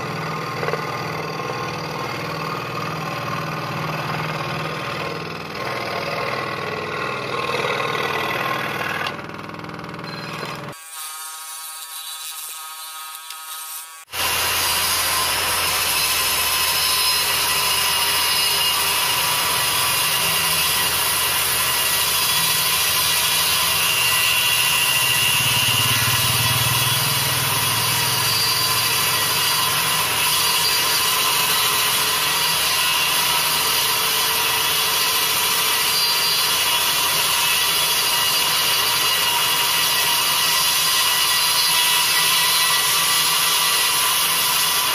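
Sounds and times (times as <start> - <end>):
electric scroll saw buzzing: 0.0 - 44.9
power saw cutting cork: 0.0 - 44.9.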